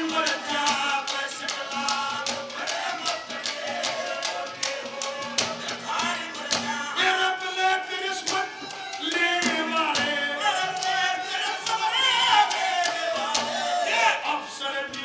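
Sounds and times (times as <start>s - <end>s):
man singing: 0.0s - 15.0s
percussion strokes: 0.0s - 15.0s.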